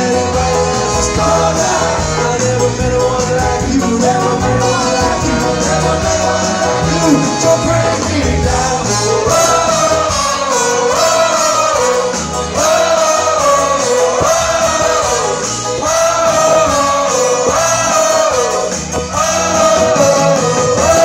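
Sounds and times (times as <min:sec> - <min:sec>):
live band playing with singing: 0:00.0 - 0:21.0.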